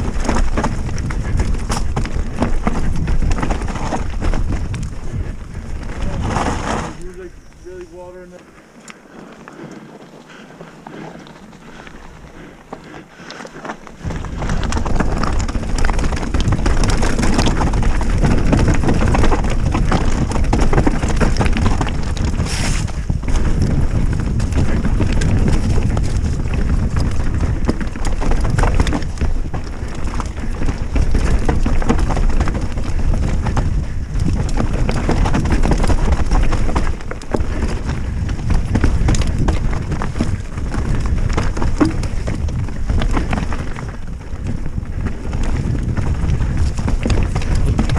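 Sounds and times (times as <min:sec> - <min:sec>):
wind on microphone: 0:00.0 - 0:08.3, 0:13.9 - 0:47.9
bike chain and frame rattling: 0:00.0 - 0:47.9
bike tyres rumbling over dirt: 0:00.0 - 0:47.9.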